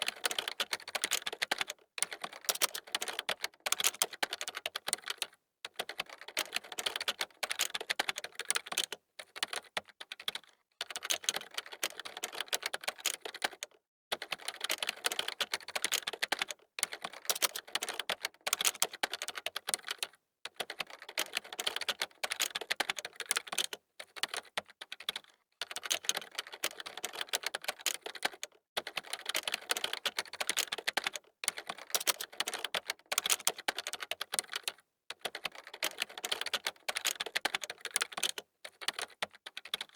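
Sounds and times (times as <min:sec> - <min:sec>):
computer keyboard typing: 0:00.0 - 0:13.6, 0:14.2 - 0:39.9.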